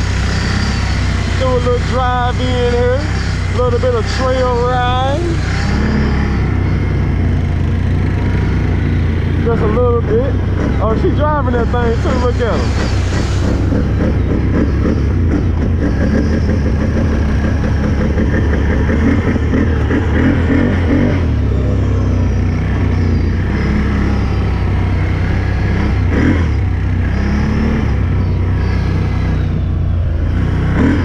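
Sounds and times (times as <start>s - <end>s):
engine running under throttle: 0.0s - 31.0s.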